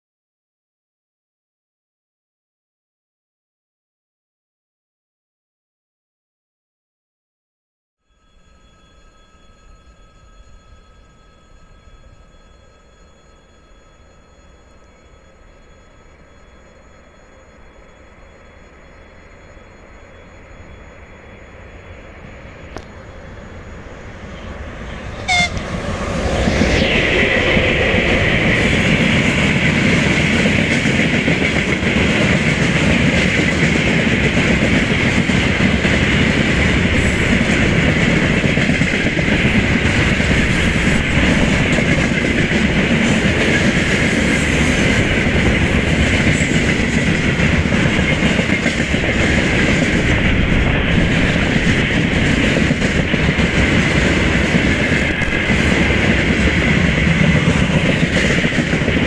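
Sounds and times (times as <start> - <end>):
high ringing from train: 8.0 - 59.0
freight train rumbling past: 8.2 - 59.0.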